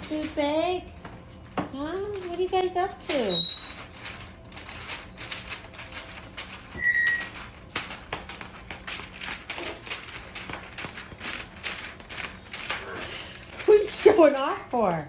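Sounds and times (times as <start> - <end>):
parrots clicking and tapping: 0.0 - 14.7.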